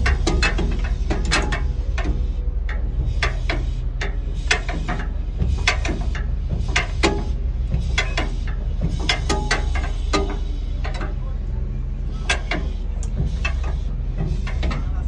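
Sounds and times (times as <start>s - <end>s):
generator humming: 0.0s - 15.0s.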